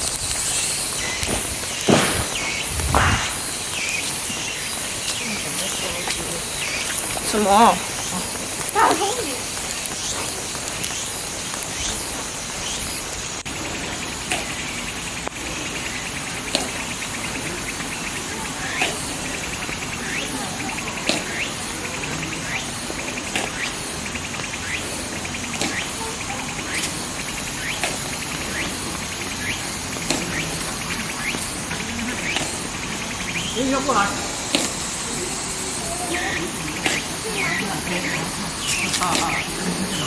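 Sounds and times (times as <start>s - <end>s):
even hiss: 0.0s - 40.0s
insects chirping in a trill: 0.0s - 40.0s.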